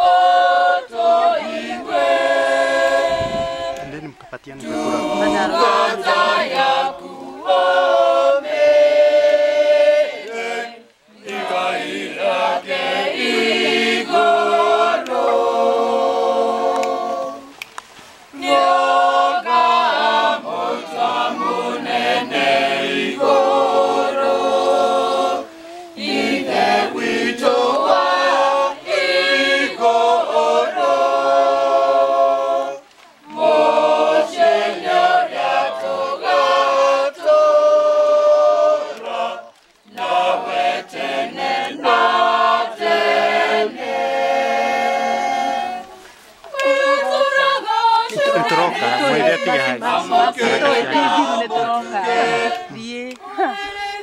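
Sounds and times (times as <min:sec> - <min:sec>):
group singing a hymn unaccompanied: 0:00.0 - 0:54.0.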